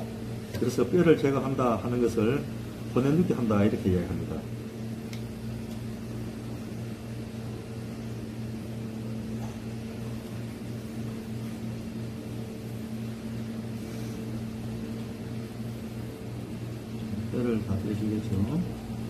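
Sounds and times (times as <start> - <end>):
low pulsing mechanical hum: 0.0 - 19.0.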